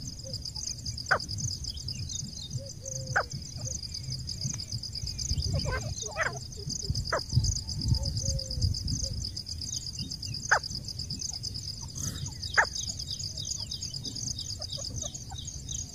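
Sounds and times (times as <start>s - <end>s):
insects trilling: 0.0s - 15.9s
sharp bird calls: 0.3s - 15.9s.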